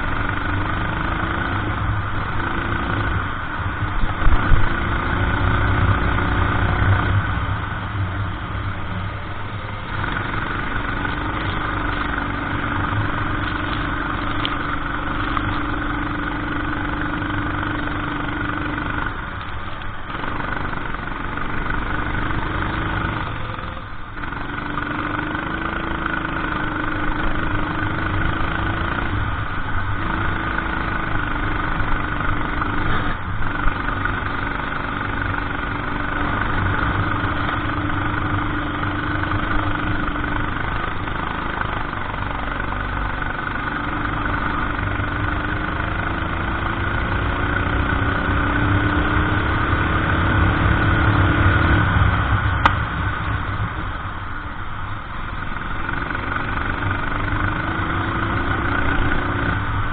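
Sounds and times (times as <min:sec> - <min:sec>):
racing kart engine revving: 0:00.0 - 0:19.4, 0:20.0 - 0:54.2, 0:55.2 - 0:59.9.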